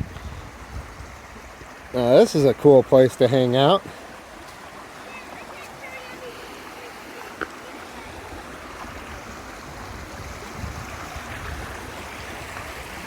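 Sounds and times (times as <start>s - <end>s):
creek water running over rocks: 0.0s - 13.0s.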